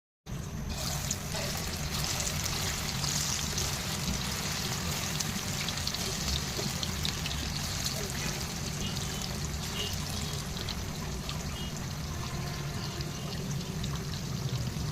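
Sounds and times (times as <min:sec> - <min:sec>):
chicken frying in hot oil: 0:00.3 - 0:14.9.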